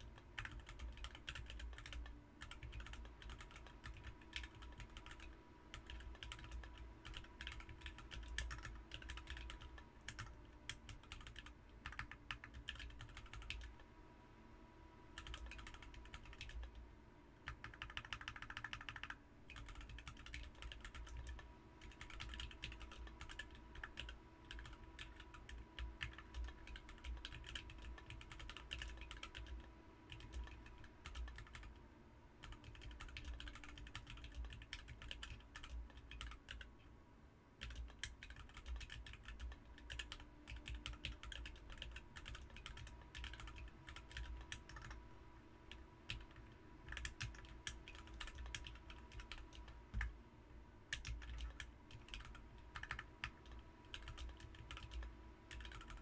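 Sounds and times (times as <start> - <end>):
mechanical keyboard typing: 0.0 - 13.8, 15.2 - 16.8, 17.5 - 31.7, 32.4 - 36.7, 37.6 - 45.0, 45.7 - 50.1, 50.9 - 56.0.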